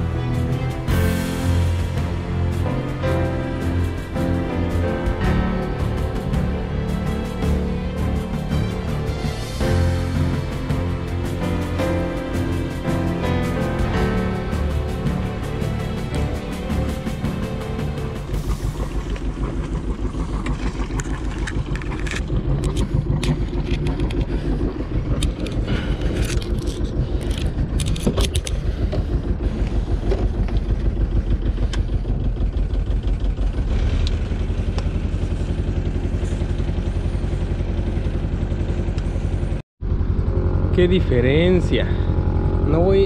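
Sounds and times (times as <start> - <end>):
boat motor running: 0.0 - 43.0.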